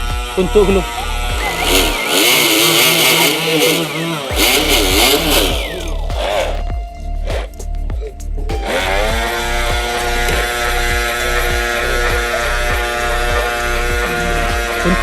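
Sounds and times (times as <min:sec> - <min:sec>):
small two-stroke engine revving: 0:00.0 - 0:06.7, 0:08.6 - 0:15.0.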